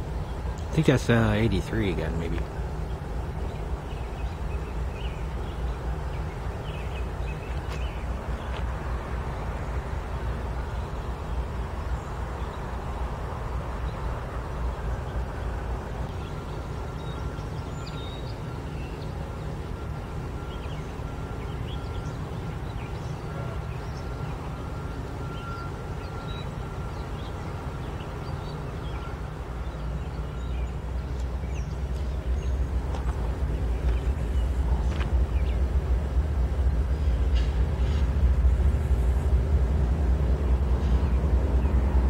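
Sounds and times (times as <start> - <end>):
diesel locomotives rumbling: 0.0 - 42.0.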